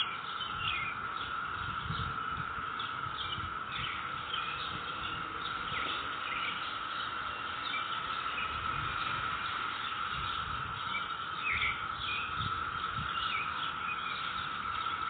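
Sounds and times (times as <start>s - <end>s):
birds chirping: 0.0s - 15.0s
cicadas droning: 0.0s - 15.0s.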